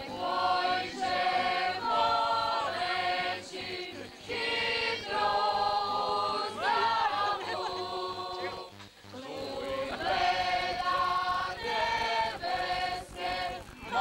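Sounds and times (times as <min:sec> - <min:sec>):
voices singing long notes: 0:00.0 - 0:14.0.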